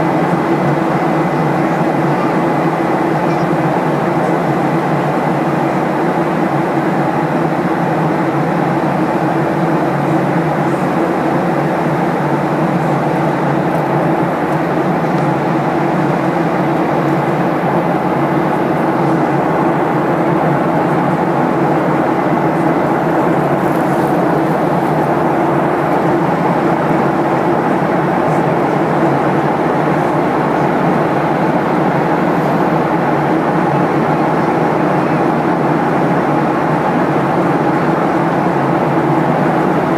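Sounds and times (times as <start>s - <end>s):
airliner cabin noise: 0.0s - 39.9s
jet engines droning: 0.0s - 39.9s.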